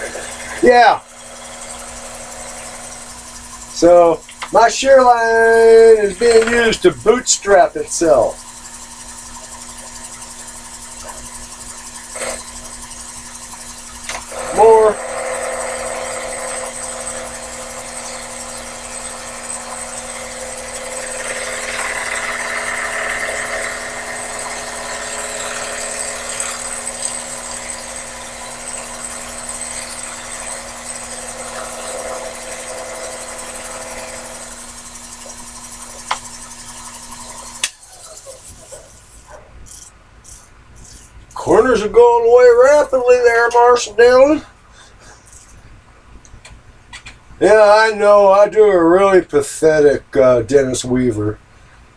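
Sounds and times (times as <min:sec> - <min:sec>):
lathe humming and whining: 0:00.0 - 0:45.6.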